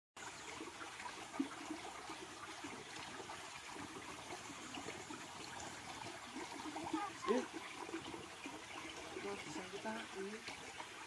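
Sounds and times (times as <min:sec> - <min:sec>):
stream babbling over stones: 0:00.2 - 0:11.0.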